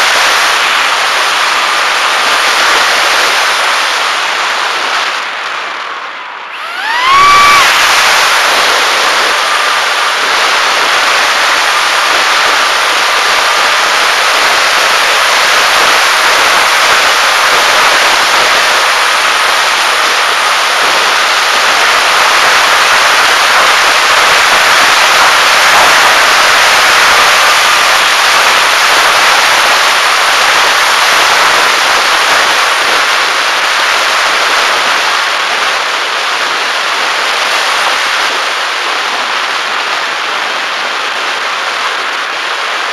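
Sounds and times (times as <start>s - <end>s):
wind hissing over camera: 0.0s - 42.9s.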